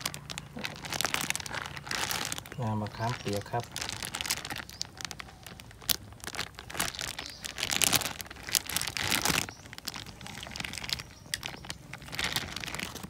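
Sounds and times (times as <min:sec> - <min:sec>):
ingredients rustling and clicking: 0:00.0 - 0:13.0.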